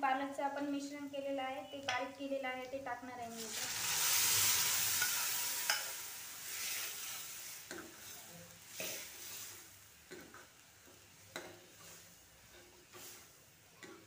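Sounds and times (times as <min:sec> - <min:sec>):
food sizzling in hot oil: 0:00.2 - 0:14.0.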